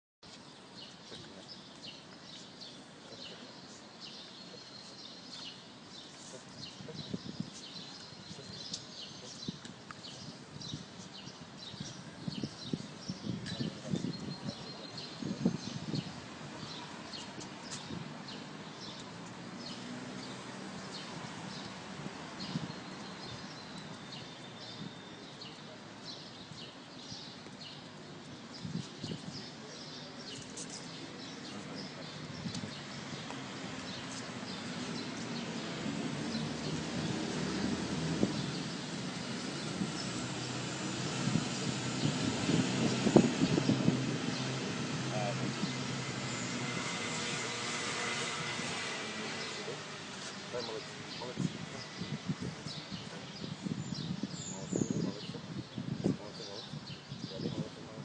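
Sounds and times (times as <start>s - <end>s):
birds chirping: 0.2s - 58.0s
steady outdoor hiss: 0.2s - 58.0s.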